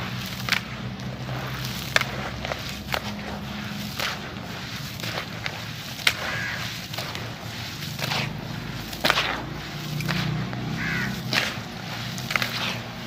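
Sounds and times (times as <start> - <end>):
cement chunks cracking: 0.0 - 13.0.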